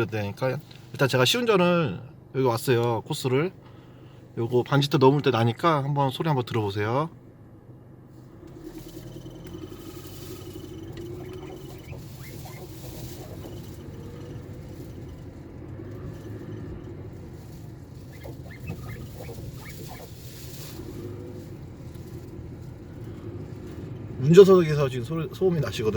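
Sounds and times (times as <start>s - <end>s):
car road and engine rumble: 0.0s - 25.9s.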